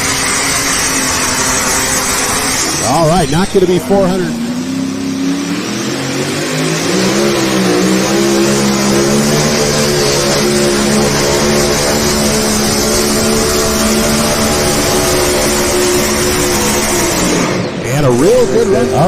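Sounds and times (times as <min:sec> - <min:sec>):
vehicle engine revving hard: 0:00.0 - 0:19.0.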